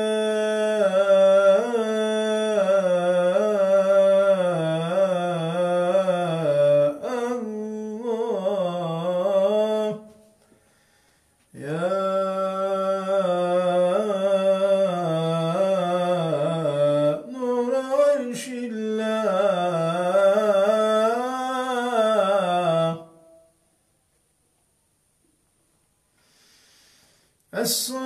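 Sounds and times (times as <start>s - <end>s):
man chanting: 0.0s - 10.3s, 11.5s - 23.5s, 27.5s - 28.0s.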